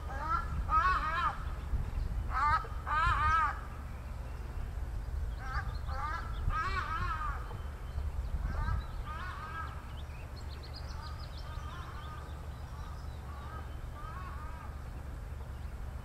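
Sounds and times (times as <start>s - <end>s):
birds wavering calls: 0.0s - 16.0s
steady low rumble: 0.0s - 16.0s.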